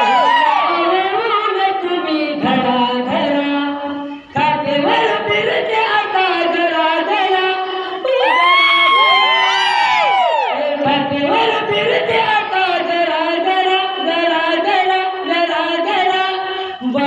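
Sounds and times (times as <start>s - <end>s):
person singing folk song: 0.0s - 9.2s, 10.5s - 17.0s.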